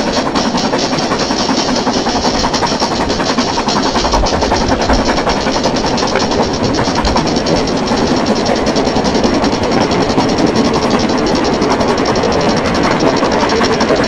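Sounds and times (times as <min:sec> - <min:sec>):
miniature train clattering on rails: 0:00.0 - 0:14.0.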